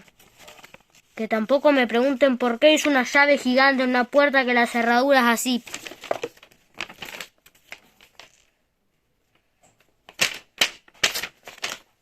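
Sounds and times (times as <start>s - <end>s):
paper rustling: 0.0s - 8.6s, 10.0s - 12.0s.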